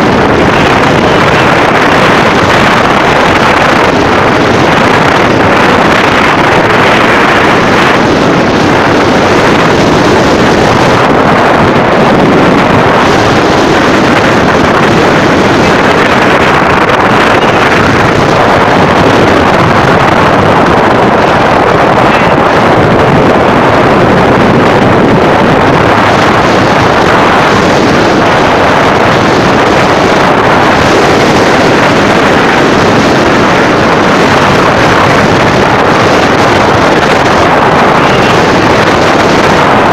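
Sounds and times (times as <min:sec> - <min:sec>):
heavy rain: 0:00.0 - 0:39.9
storm wind: 0:00.0 - 0:39.9
wind buffeting microphone: 0:00.0 - 0:39.9.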